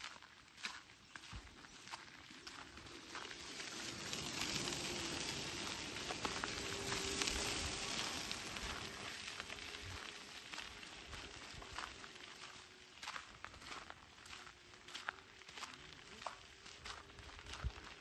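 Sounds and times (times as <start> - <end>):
faint footsteps: 0.0 - 18.0.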